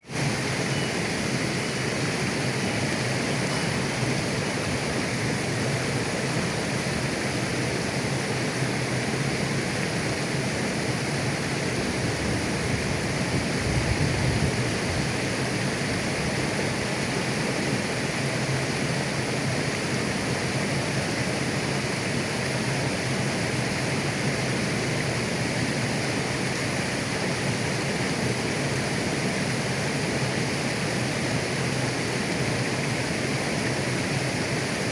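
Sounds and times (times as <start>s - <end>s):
river flowing over stones: 0.0s - 34.9s.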